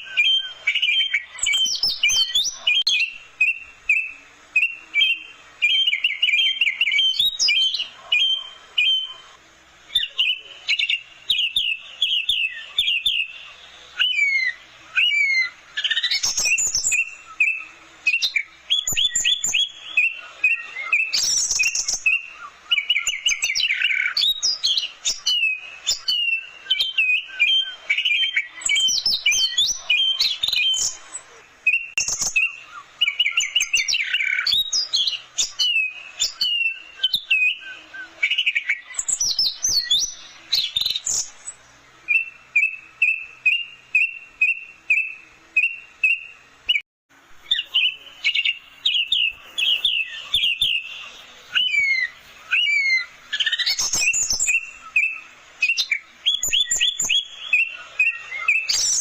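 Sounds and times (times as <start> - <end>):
thrush singing chirps and whistles: 0.0 - 59.0.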